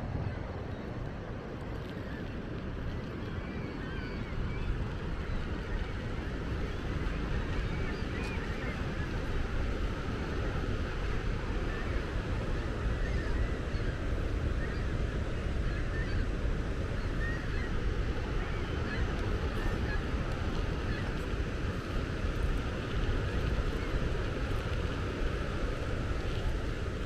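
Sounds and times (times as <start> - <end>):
bicycle rolling rumble: 0.0 - 27.0
wind rush: 0.0 - 27.0.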